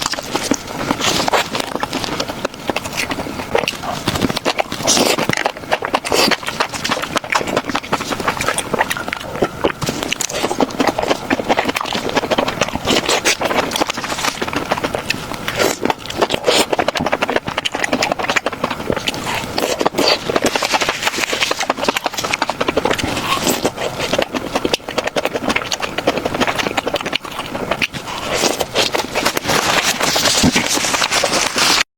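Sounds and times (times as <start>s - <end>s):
chewing with wet crunches: 0.0s - 31.8s.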